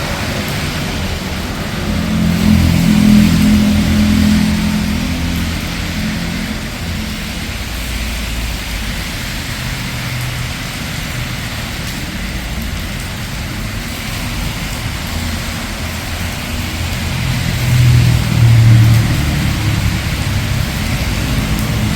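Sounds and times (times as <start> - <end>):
passing car engine: 0.0 - 21.9
rain falling on street: 0.0 - 21.9
traffic rumble: 0.0 - 21.9.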